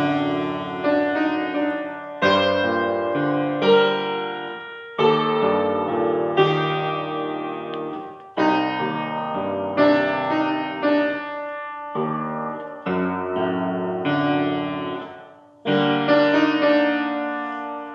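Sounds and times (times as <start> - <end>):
grand piano chords: 0.0 - 17.9.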